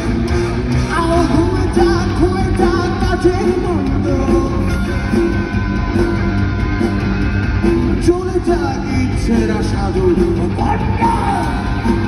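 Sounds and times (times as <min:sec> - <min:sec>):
acoustic rock band playing: 0:00.0 - 0:12.0.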